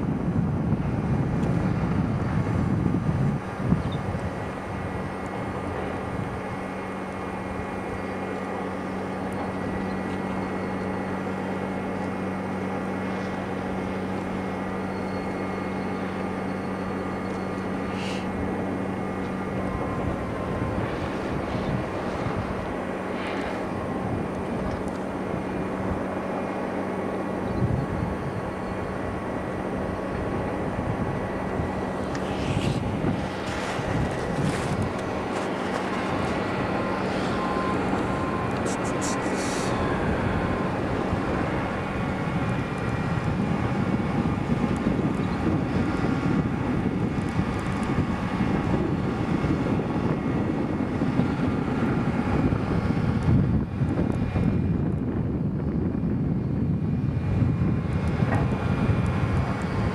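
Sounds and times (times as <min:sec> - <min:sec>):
hum: 0:00.0 - 0:59.9
outdoor noise: 0:00.0 - 0:59.9
steady mechanical drone: 0:00.0 - 0:59.9.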